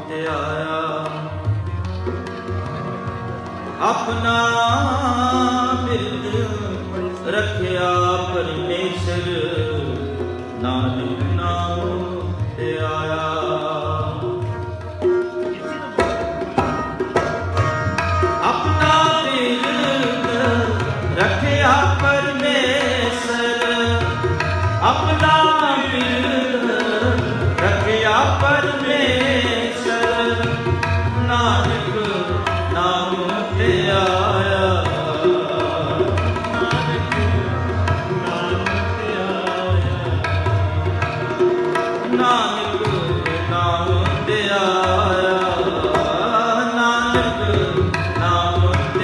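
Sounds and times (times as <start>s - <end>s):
man singing: 0.0s - 2.1s, 3.7s - 16.2s, 17.6s - 49.0s
harmoniums holding chords: 0.0s - 49.0s
tabla rhythm: 0.0s - 49.0s.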